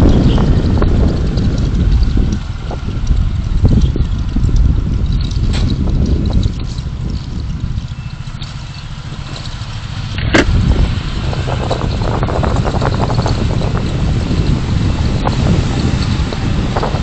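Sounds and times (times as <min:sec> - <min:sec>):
car engine and road rumble: 0:00.0 - 0:17.0
light clicking rattles: 0:00.0 - 0:17.0.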